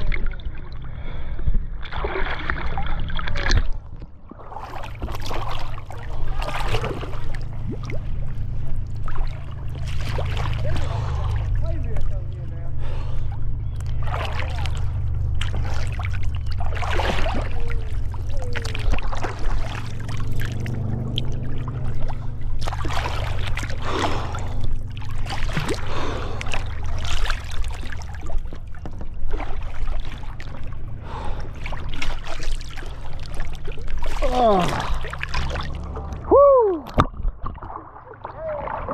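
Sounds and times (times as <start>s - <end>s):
steady low rumble: 0.0s - 38.9s
water splashes: 0.0s - 38.9s.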